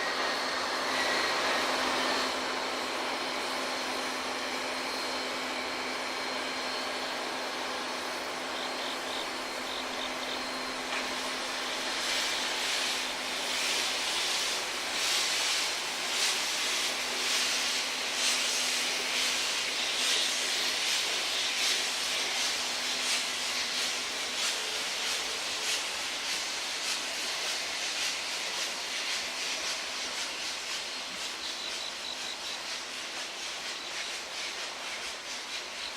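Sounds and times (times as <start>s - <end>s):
steam hiss: 0.0s - 35.9s
steam locomotive chuffing: 0.0s - 35.9s.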